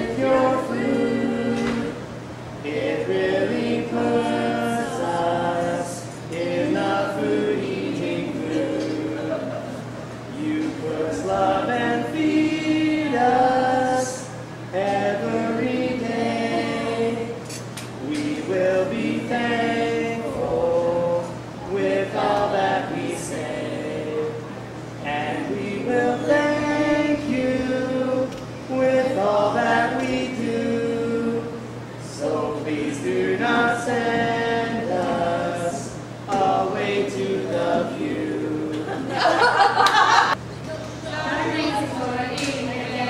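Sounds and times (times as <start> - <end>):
boys singing together: 0.0 - 40.4.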